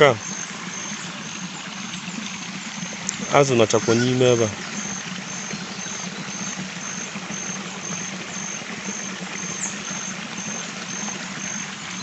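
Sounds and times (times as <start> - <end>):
faint high insect chirp: 0.0 - 2.0, 2.6 - 12.0
stream water trickling: 0.0 - 12.0.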